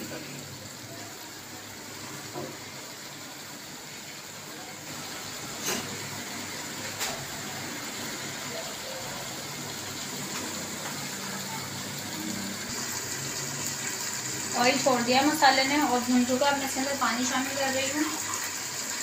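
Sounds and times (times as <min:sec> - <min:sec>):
masala sizzling and bubbling in pot: 0:00.0 - 0:19.0.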